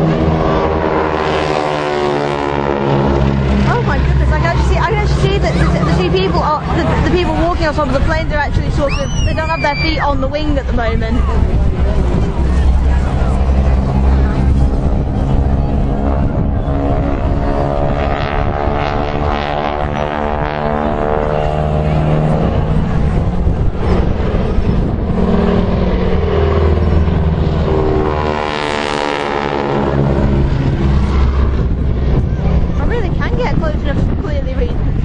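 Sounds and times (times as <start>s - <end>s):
propeller aircraft flying past: 0.0s - 35.0s.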